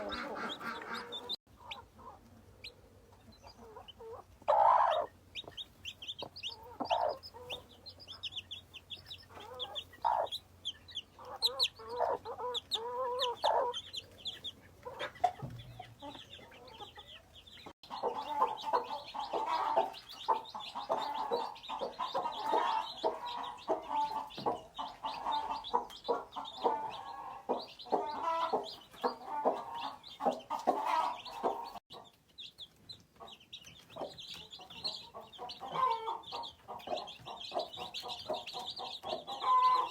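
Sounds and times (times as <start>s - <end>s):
hens clucking: 0.0s - 32.2s, 33.0s - 39.9s
chicks peeping: 0.0s - 39.9s.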